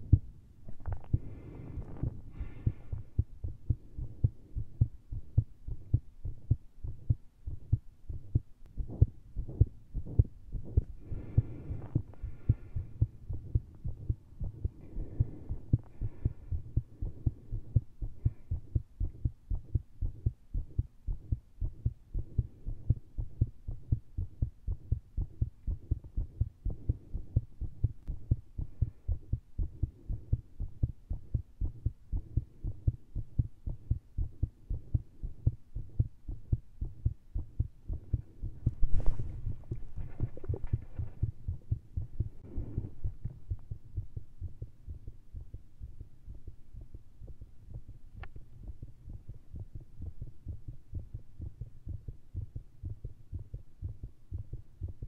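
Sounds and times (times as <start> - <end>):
heartbeat through stethoscope: 0.0 - 55.0.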